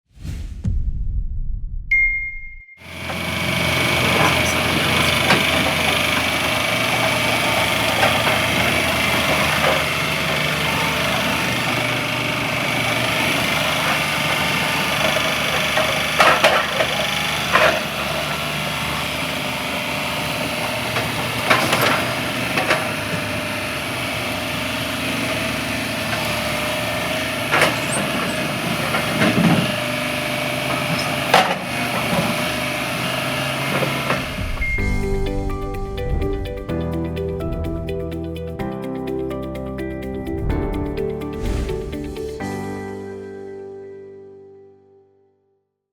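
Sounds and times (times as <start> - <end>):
skid steer engine running: 2.8 - 42.7.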